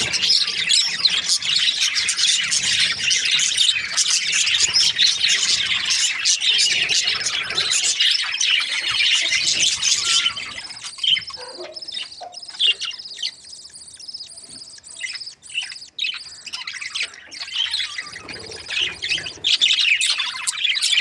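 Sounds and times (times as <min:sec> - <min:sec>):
budgerigars chirping: 0:00.0 - 0:21.0.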